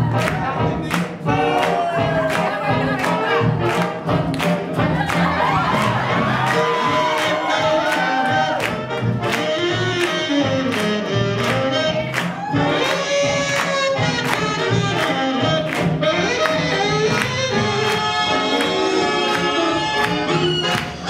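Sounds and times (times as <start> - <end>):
swing jazz band playing: 0.0 - 21.0.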